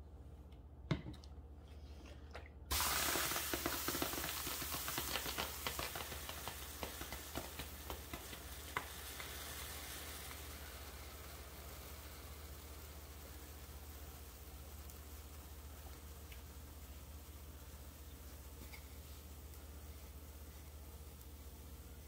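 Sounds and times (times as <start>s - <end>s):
water sizzling into steam: 2.7s - 22.0s.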